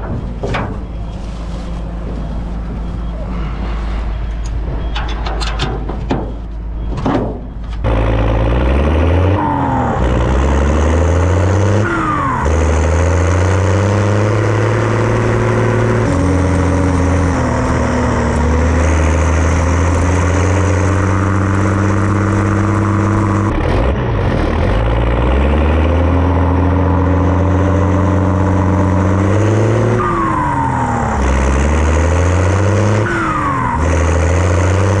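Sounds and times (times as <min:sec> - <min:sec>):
diesel tractor running under load: 0:00.0 - 0:35.0.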